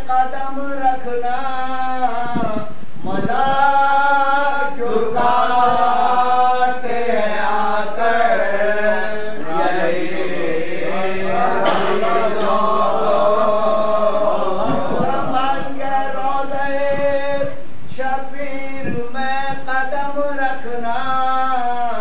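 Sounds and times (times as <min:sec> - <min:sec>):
man chanting unaccompanied: 0:00.0 - 0:22.0.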